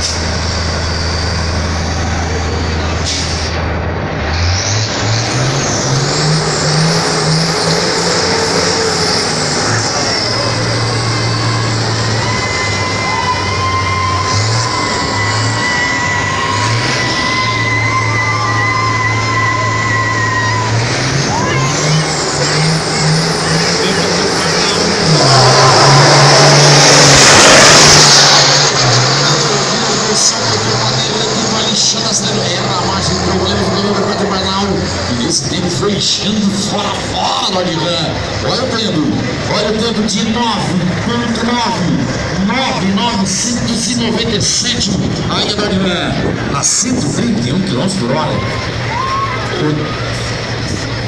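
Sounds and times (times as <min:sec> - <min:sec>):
diesel truck engine revving: 0:00.0 - 0:51.0.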